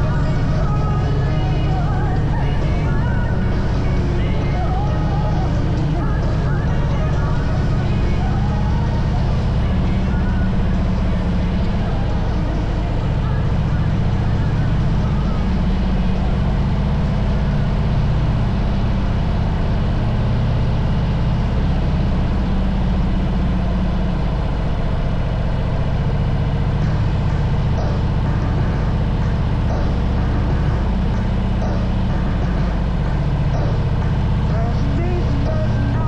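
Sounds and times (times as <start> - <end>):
motorcycle engine rumbling: 0.0 - 36.0
steady rush of noise: 0.0 - 36.0.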